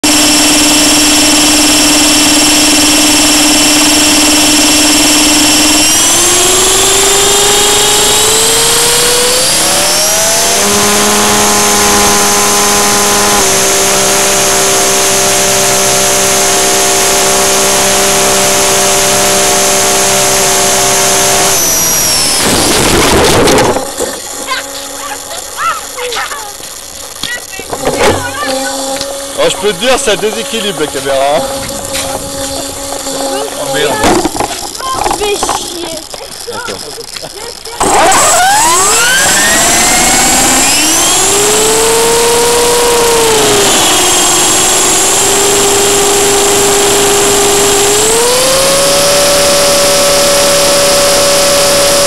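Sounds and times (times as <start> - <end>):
rc helicopter motor whine: 0.0 - 52.0
rotor blades striking ground: 0.0 - 52.0.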